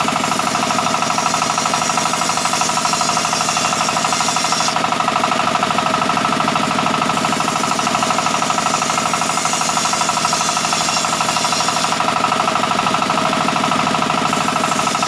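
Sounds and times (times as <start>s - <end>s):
bandsaw motor knocking: 0.0s - 15.0s.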